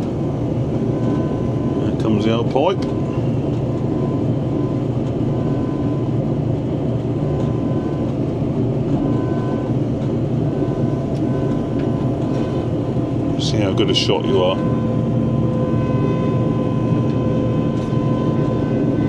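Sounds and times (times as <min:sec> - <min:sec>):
combine harvester hum: 0:00.0 - 0:19.0.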